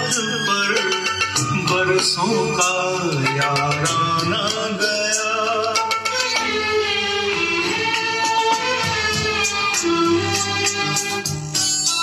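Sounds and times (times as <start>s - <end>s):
film song from loudspeakers: 0.0s - 12.0s.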